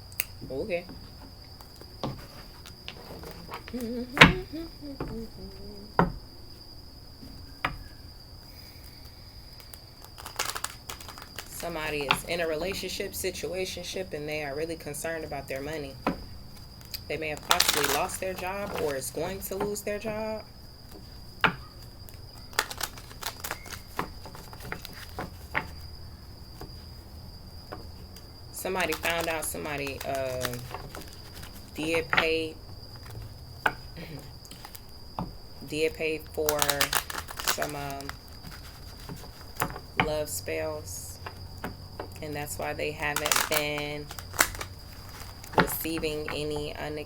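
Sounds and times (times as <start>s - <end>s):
insect trilling: 0.0s - 47.0s
cards clicking and tapping: 0.2s - 6.2s, 9.6s - 13.0s, 15.6s - 20.2s, 20.9s - 25.9s, 27.6s - 35.6s, 36.2s - 47.0s.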